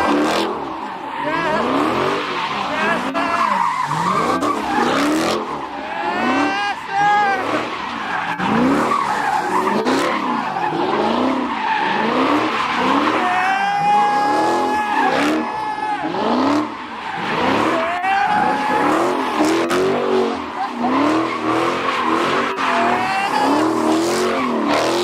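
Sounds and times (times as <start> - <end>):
car engine revving: 0.0 - 25.0
tyres squealing: 0.0 - 25.0.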